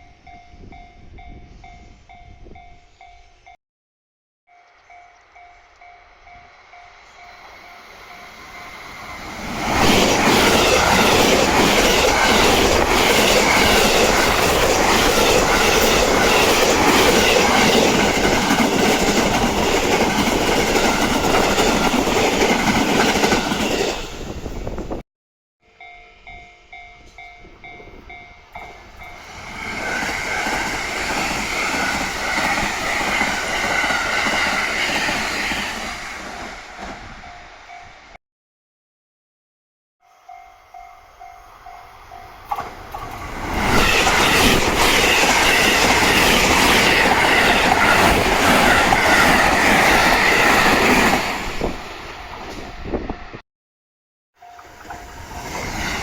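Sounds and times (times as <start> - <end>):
train passing: 4.5 - 25.0, 25.7 - 38.2, 40.1 - 53.4, 54.4 - 56.0.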